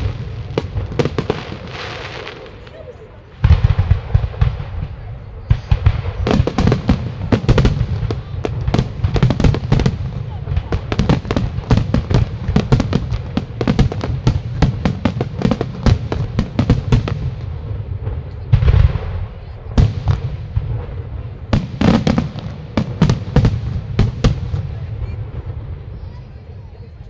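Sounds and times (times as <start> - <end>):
fireworks bursting: 0.0 - 27.0
heavy firework boom: 3.3 - 26.2.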